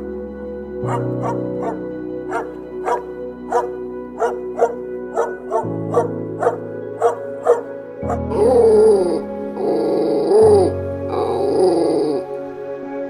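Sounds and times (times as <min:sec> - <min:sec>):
background music with chords: 0:00.0 - 0:13.0
animal bark-like calls: 0:00.9 - 0:12.2.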